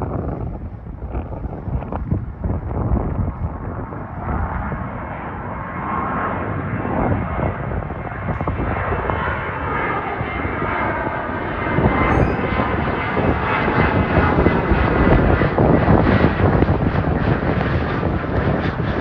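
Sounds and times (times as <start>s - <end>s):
airliner jet roar: 0.0s - 19.0s.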